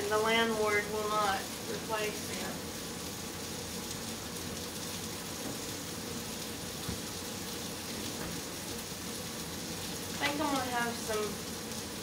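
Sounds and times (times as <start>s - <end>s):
sausages sizzling in a frying pan: 0.0s - 12.0s.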